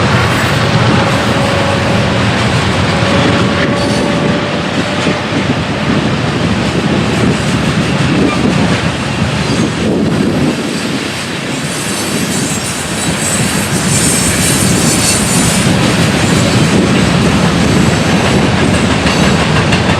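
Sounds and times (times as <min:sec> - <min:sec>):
train wheels rumbling on track: 0:00.0 - 0:19.9.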